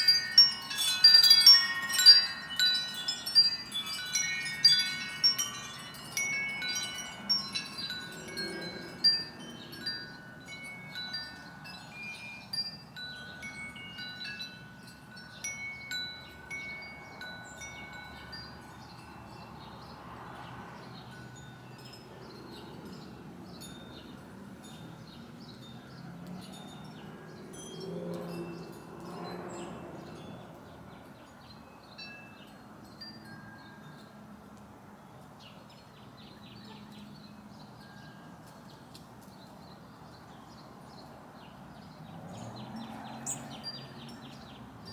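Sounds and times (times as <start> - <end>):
wind chimes ringing: 0.0 - 44.9.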